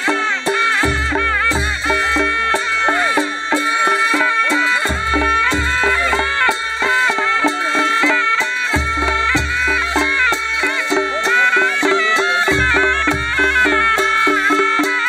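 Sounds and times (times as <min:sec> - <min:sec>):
drums and cymbals beat: 0:00.0 - 0:15.0
reedy shehnai melody: 0:00.0 - 0:15.0.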